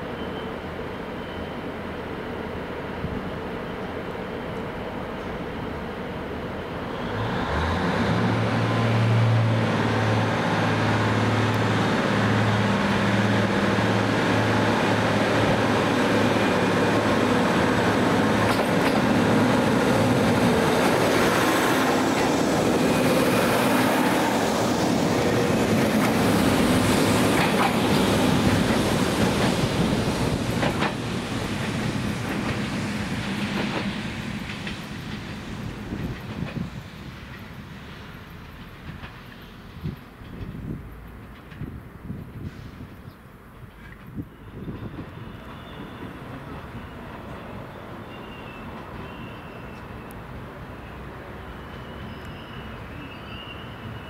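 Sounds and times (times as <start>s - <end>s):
train wheel rumble: 4.5s - 52.9s.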